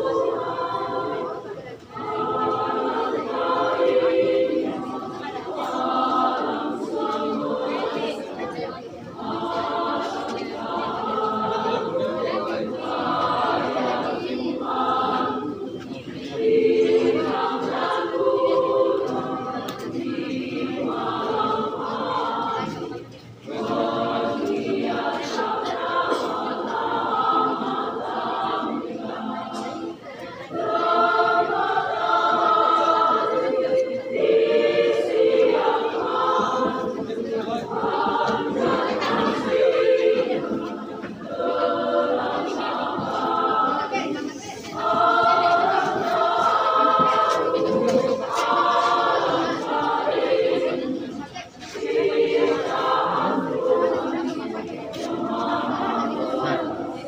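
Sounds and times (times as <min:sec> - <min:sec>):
women's choir singing a cappella: 0:00.0 - 0:57.0.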